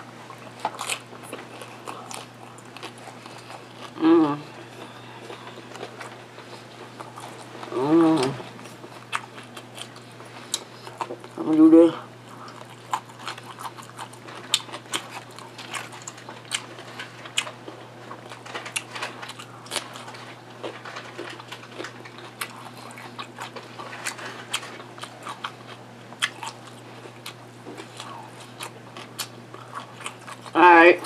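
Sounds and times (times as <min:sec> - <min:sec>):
person chewing crunchy chips: 0:00.0 - 0:31.0.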